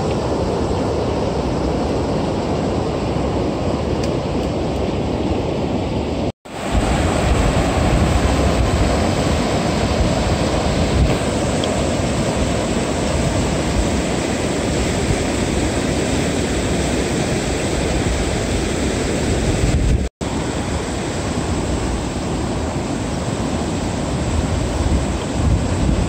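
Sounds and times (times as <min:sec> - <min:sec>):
river water rushing over weir: 0:00.0 - 0:26.0.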